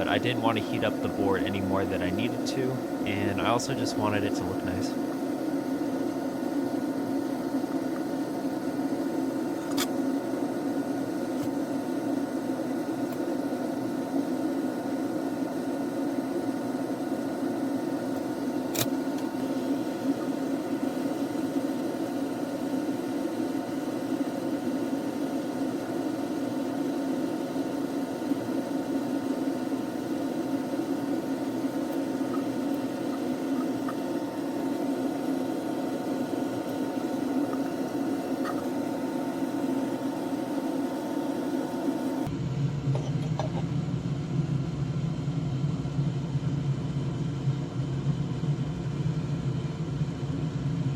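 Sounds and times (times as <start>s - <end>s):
small fan whirring: 0.0s - 44.0s.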